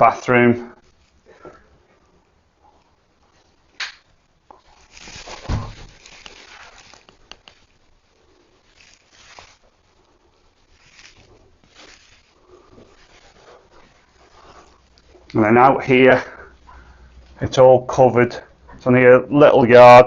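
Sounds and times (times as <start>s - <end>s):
rustling: 0.7s - 17.4s.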